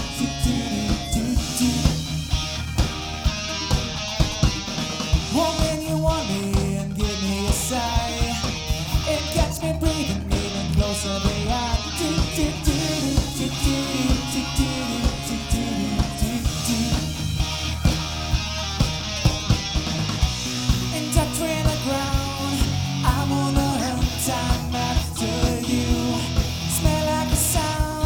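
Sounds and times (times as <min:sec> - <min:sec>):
bass and drums beat: 0:00.0 - 0:28.0
electric guitar lead line: 0:00.0 - 0:28.0.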